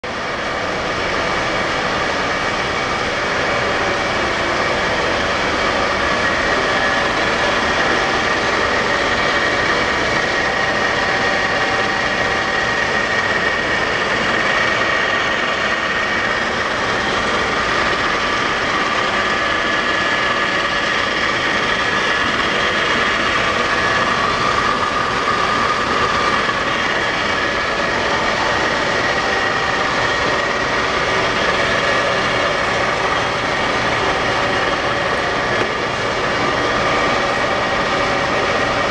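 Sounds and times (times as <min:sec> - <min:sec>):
lathe whining and humming: 0:00.0 - 0:38.9.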